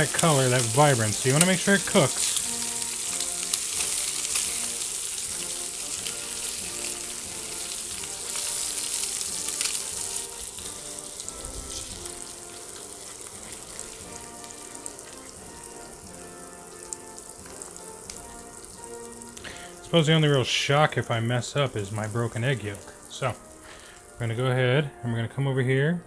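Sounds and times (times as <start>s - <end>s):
egg sizzling in a pan: 0.0s - 24.5s
soft background music: 0.0s - 26.0s.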